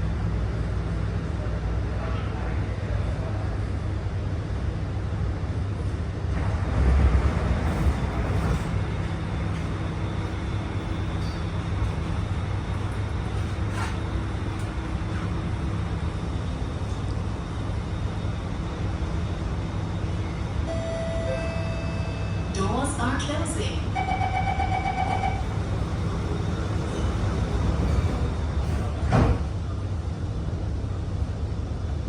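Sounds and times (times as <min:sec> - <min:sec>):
train equipment humming: 0:03.9 - 0:32.0.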